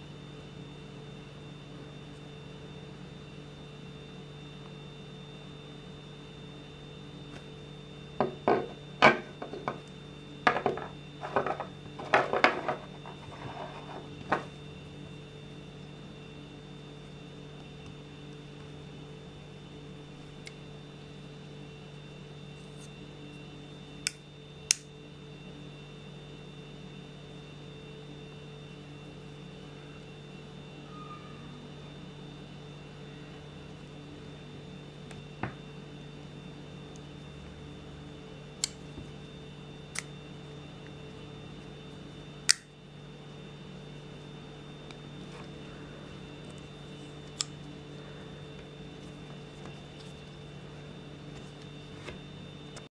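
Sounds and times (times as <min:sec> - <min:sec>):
steady hum: 0:00.0 - 0:52.9.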